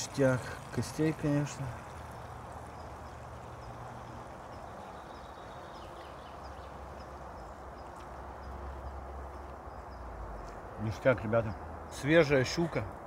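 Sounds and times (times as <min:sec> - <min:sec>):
outdoor background hiss: 0:00.0 - 0:13.0
small bird chirping: 0:01.6 - 0:13.0.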